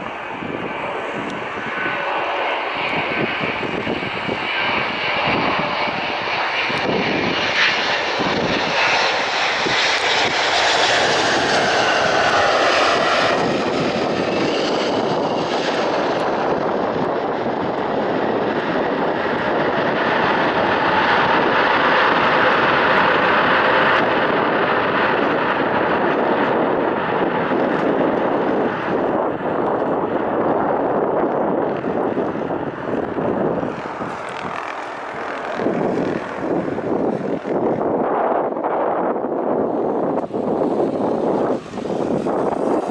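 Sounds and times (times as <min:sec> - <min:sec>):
jet engines passing: 0:00.0 - 0:42.9
wind rumbling on microphone: 0:00.0 - 0:42.9.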